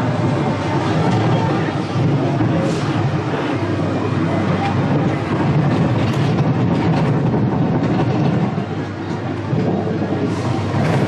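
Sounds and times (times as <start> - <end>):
ride car rumbling on rail: 0.0 - 11.0.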